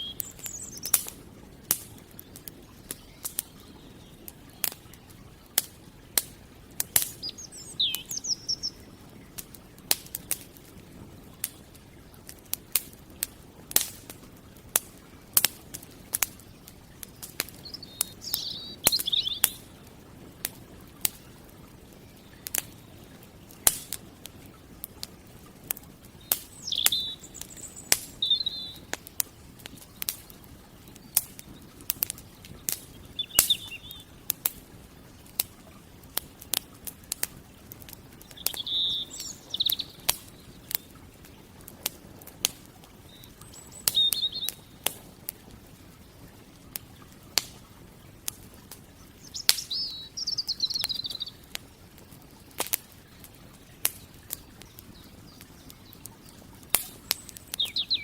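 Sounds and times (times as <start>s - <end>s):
campfire crackling and popping: 0.0s - 58.0s
small birds chirping: 0.0s - 58.0s.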